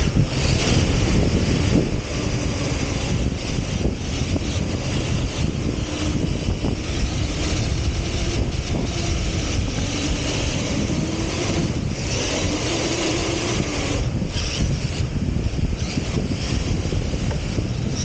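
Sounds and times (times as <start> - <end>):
rc car motor whine: 0.0 - 18.0
wind rushing on microphone: 0.0 - 18.0.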